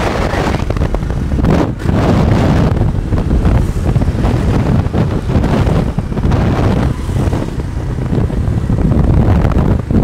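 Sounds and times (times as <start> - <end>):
motorcycle engine: 0.0 - 10.0
street traffic: 0.0 - 10.0
wind buffeting microphone: 0.0 - 10.0.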